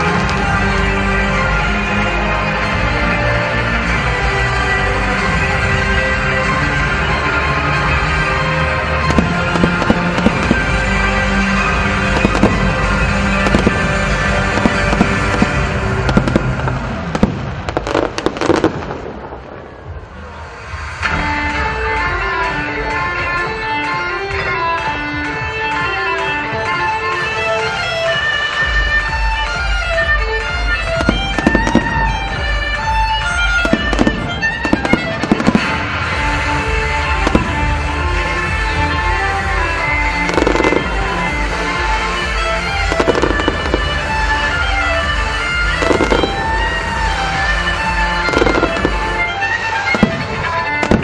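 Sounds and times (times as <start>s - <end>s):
fireworks bangs and crackling: 0.0s - 51.0s
music playing: 0.0s - 51.0s.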